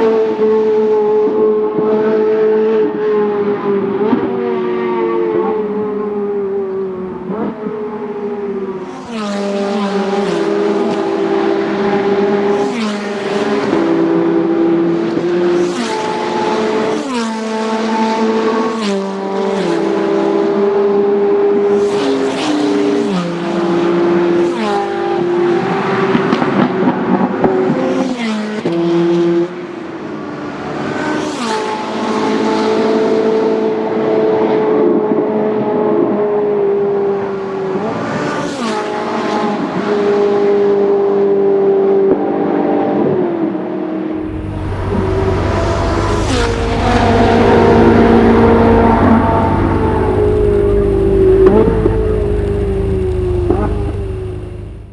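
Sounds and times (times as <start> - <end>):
sports car engines at full throttle: 0.0 - 54.9.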